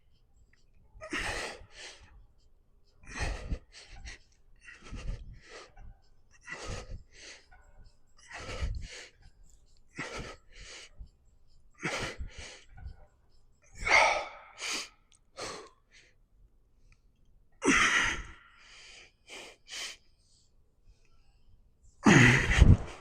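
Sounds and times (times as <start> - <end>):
man breathing hard: 1.0 - 2.2, 3.0 - 13.0, 13.8 - 16.2, 17.6 - 23.0.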